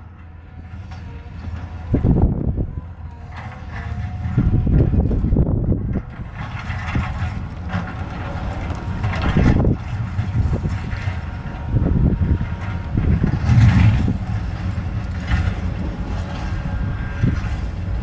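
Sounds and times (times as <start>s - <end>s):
excavator diesel engine under load: 0.0s - 18.0s.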